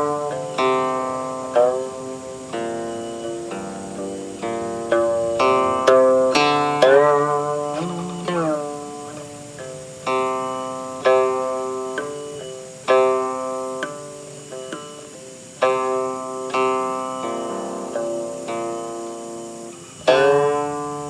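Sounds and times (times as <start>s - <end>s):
guqin plucked notes: 0.0s - 21.0s.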